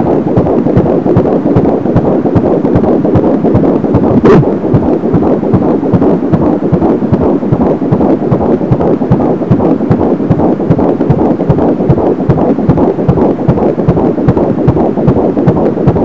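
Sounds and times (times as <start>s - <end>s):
fetal heartbeat pulse: 0.0s - 16.0s.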